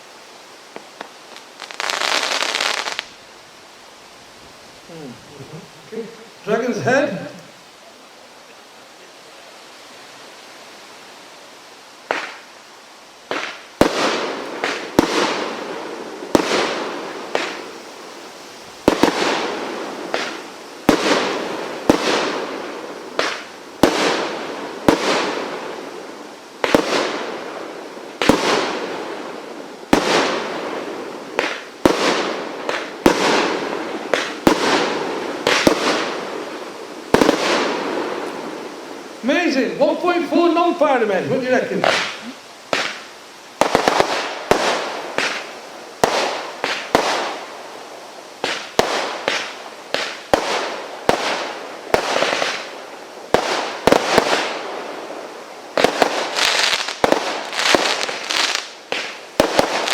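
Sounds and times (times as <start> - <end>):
firework bangs: 0.7 - 3.1, 12.0 - 12.5, 13.2 - 59.9.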